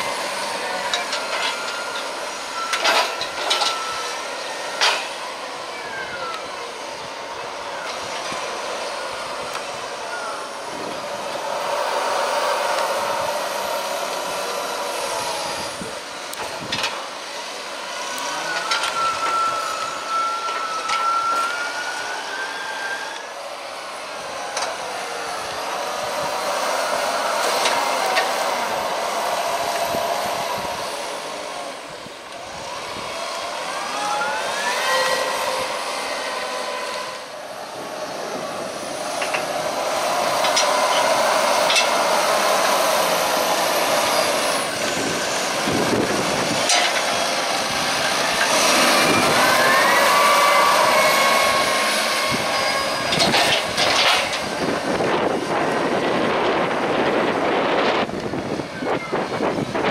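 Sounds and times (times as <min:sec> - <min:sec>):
tractor engine and transmission whine: 0:00.0 - 0:59.9.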